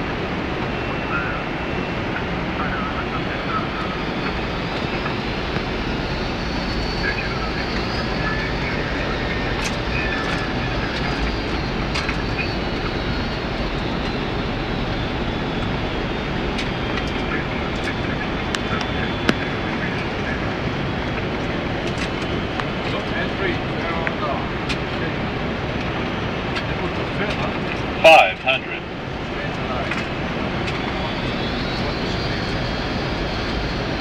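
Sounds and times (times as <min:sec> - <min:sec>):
aircraft cockpit rushing noise: 0:00.0 - 0:34.0.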